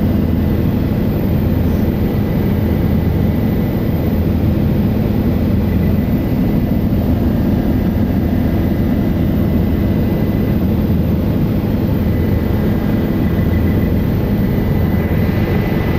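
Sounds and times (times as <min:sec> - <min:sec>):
faint steady whine: 0:00.0 - 0:15.9
helicopter engine and rotor drone: 0:00.0 - 0:15.9.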